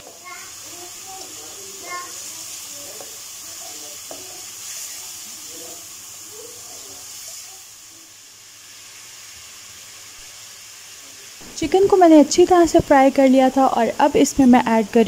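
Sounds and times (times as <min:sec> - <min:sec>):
chicken sizzling in a wok: 0:00.0 - 0:15.0.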